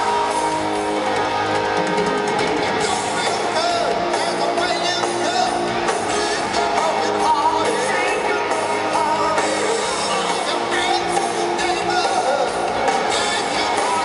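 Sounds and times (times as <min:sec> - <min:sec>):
drums: 0:00.0 - 0:14.0
electric guitars: 0:00.0 - 0:14.0
person singing: 0:00.0 - 0:14.0.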